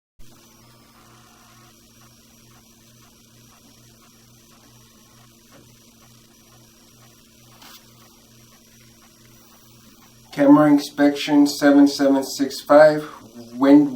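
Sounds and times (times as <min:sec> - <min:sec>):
faint high-pitched whine: 0:00.2 - 0:13.9
pulsing electrical hum: 0:00.2 - 0:13.9.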